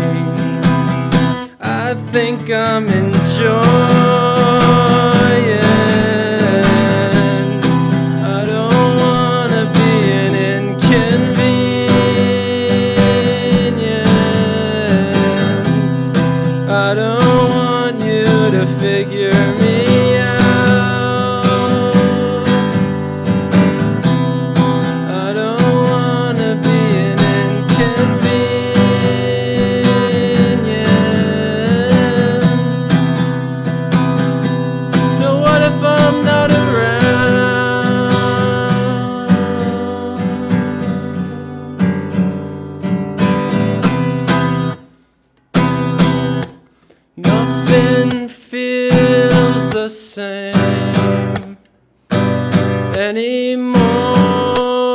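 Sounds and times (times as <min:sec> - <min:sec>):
man singing: 0:00.0 - 0:44.7, 0:47.2 - 0:54.9
acoustic guitar strumming: 0:00.0 - 0:54.9.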